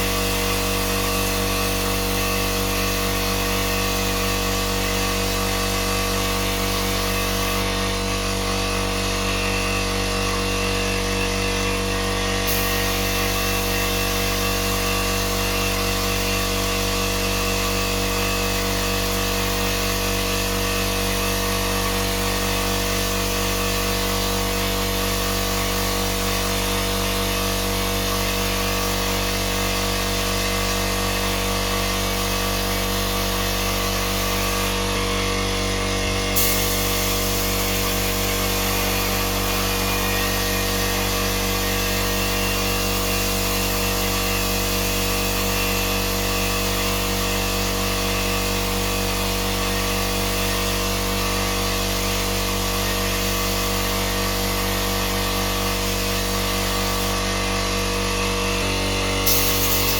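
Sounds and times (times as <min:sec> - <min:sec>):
power tool motor running: 0:00.0 - 0:59.9.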